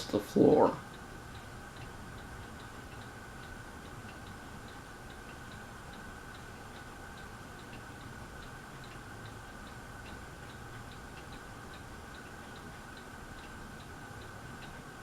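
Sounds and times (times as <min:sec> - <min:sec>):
ceiling fan clicking: 0:00.0 - 0:15.0
faint fan motor hum: 0:00.0 - 0:15.0.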